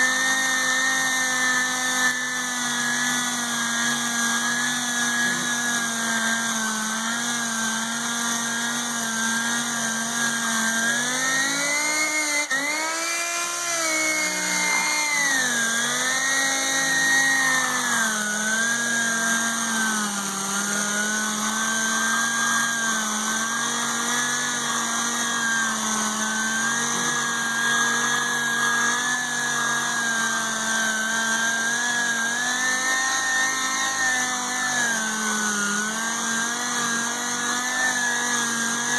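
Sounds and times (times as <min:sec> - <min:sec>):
sander whining: 0:00.0 - 0:38.9.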